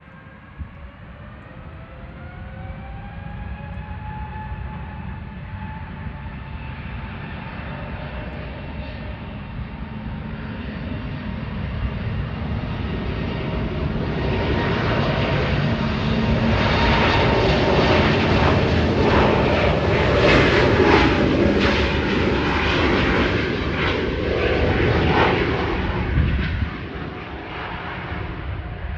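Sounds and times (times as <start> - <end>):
jet engines at takeoff thrust: 0.0 - 28.9.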